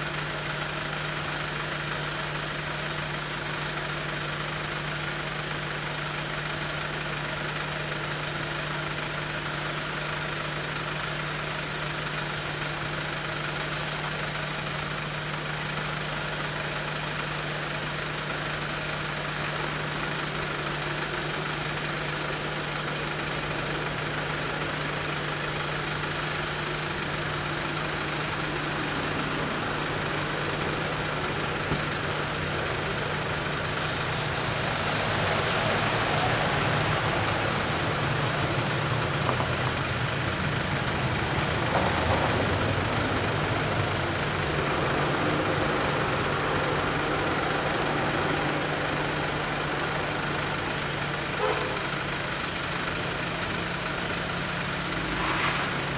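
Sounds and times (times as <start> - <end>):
van engine idling: 0.0 - 55.9
cars pulling up: 11.0 - 55.9.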